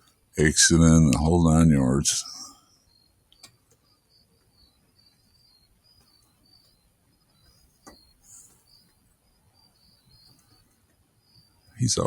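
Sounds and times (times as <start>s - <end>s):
faint insects chirping: 0.0s - 12.0s.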